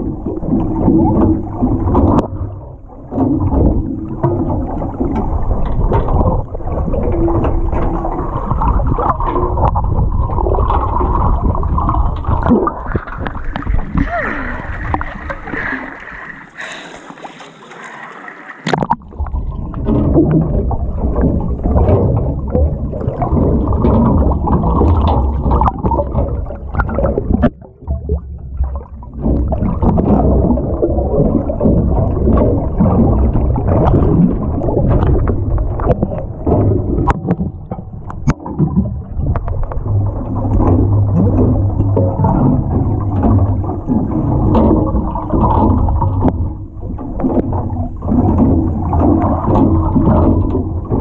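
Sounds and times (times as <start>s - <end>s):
low rumble: 0.0s - 16.4s, 18.8s - 51.0s
underwater sloshing and bubbling: 0.0s - 51.0s
water splashing: 0.0s - 51.0s.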